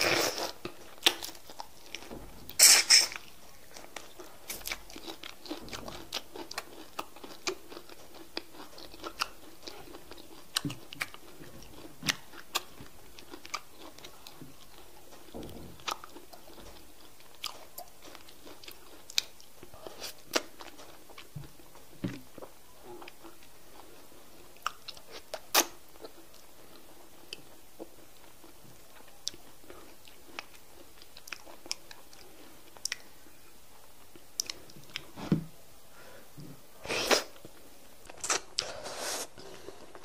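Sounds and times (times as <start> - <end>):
chewing with mouth clicks: 0.0 - 33.1, 34.0 - 35.1.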